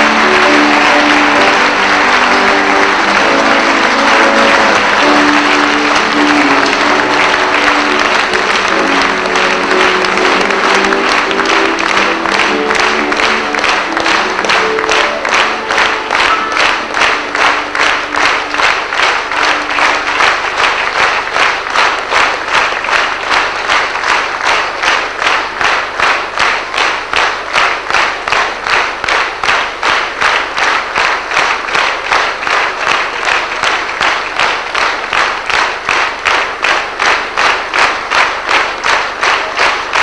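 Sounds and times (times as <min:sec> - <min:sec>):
audience clapping in unison: 0:00.0 - 0:40.0.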